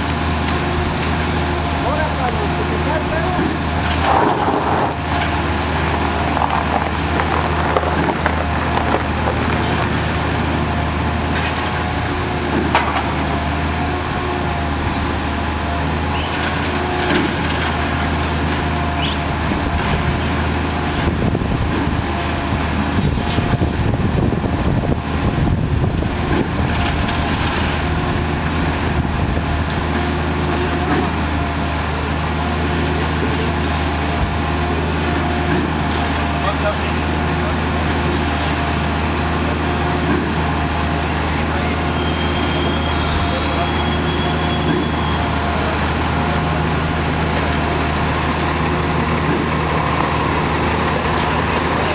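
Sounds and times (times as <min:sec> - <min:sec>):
diesel engine humming: 0:00.0 - 0:41.9, 0:42.9 - 0:51.9.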